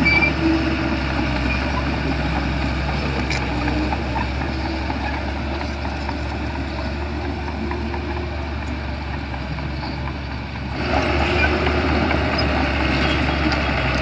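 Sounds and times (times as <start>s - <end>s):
bulldozer diesel engine humming: 0.0s - 14.0s.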